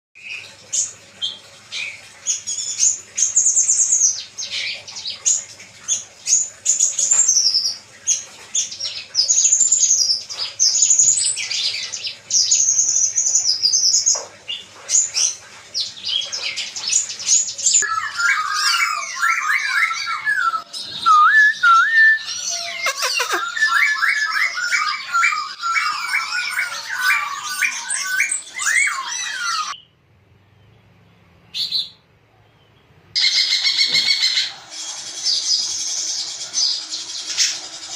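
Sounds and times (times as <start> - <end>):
songbird chirping and trilling: 0.2 - 37.9.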